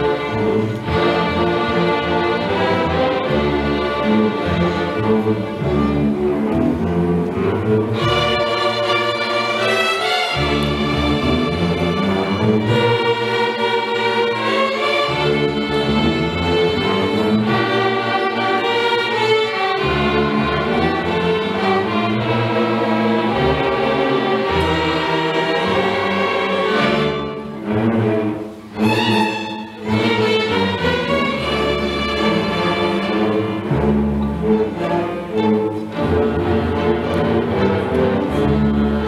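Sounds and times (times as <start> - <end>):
string orchestra playing chords: 0.0 - 39.0.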